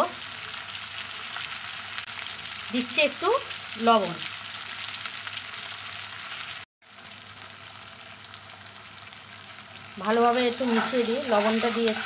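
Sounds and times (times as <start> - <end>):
potatoes and onions sizzling in oil: 0.0 - 12.0.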